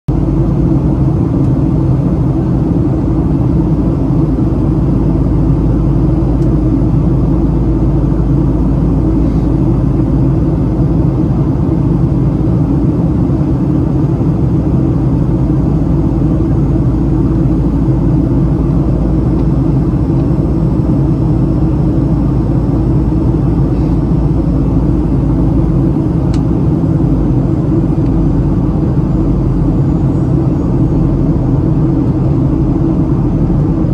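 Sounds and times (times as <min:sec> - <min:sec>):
air rushing along fuselage: 0:00.1 - 0:33.9
jet engine rumble: 0:00.1 - 0:33.9.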